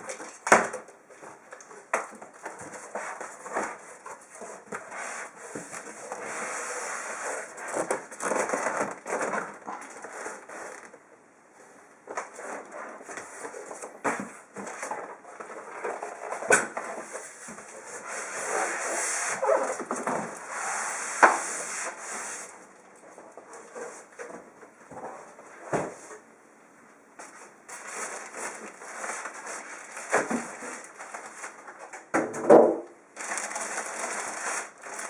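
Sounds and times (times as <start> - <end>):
cardboard rustling and crinkling: 0.0 - 11.0, 12.1 - 26.2, 27.2 - 32.1, 33.2 - 35.0.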